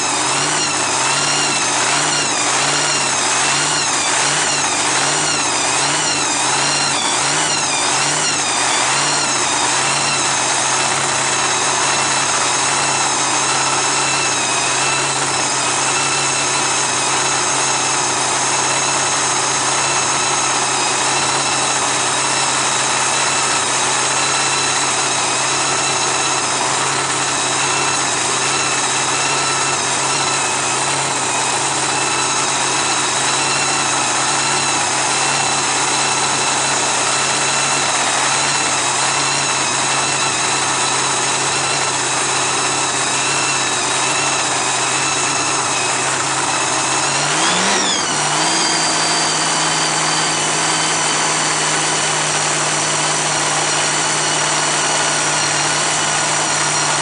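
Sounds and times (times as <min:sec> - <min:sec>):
drag racing engine revving: 0:00.0 - 0:57.0.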